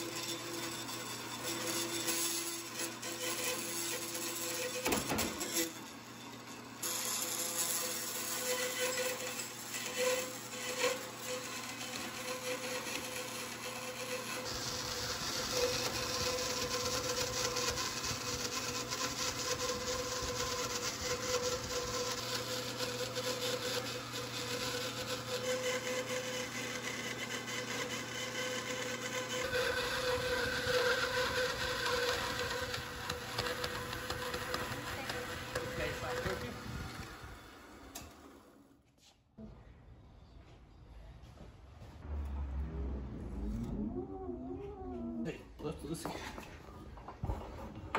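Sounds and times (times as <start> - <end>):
band saw cutting: 0.0 - 38.6.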